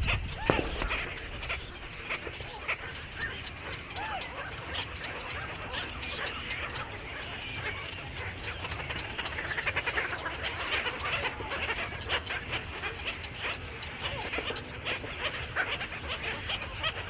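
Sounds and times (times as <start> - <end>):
flock of birds chirping: 0.0 - 17.0.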